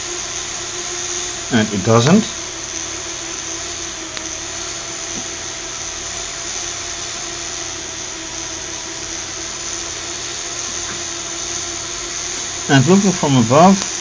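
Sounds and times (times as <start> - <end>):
electric motors whining: 0.0 - 14.0.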